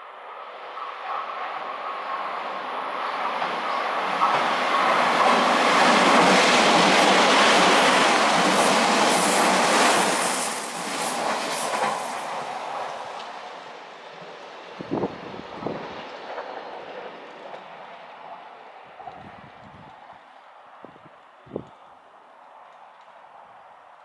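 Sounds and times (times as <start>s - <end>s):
train rushing past: 0.0s - 20.9s.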